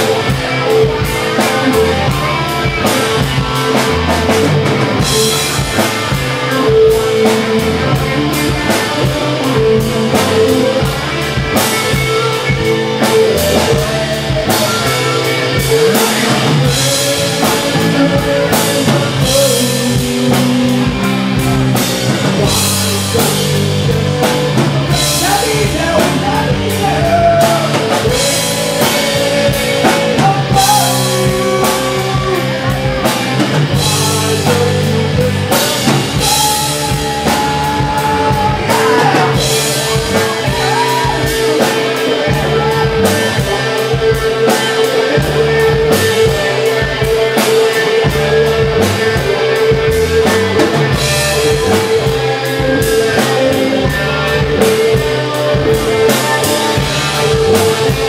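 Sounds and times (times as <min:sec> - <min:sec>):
live rock band playing: 0:00.0 - 0:58.0
man singing into a microphone: 0:00.0 - 0:58.0.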